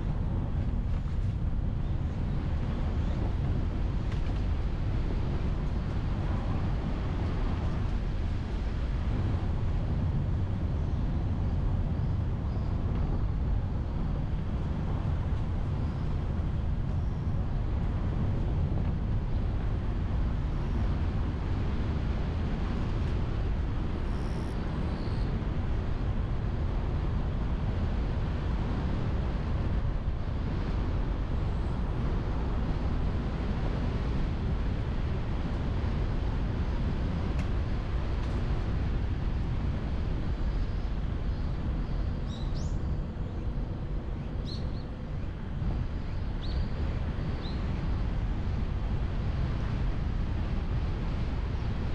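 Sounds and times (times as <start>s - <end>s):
car road and wind rumble: 0.0s - 51.9s.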